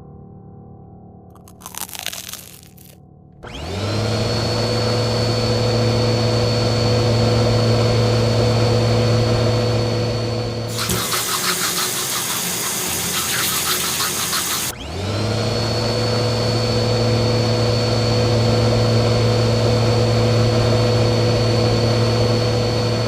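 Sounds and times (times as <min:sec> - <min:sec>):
engine running with whine: 0:03.4 - 0:23.0.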